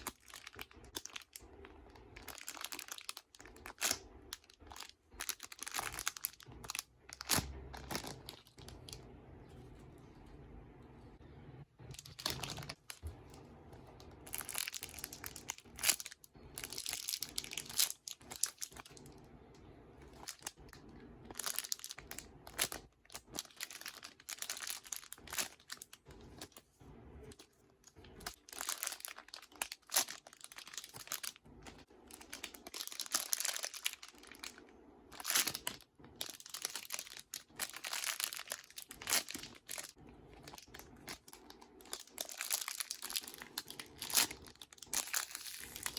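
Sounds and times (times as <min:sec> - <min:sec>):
plastic crinkling and rustling: 0:00.0 - 0:10.5, 0:11.8 - 0:45.9.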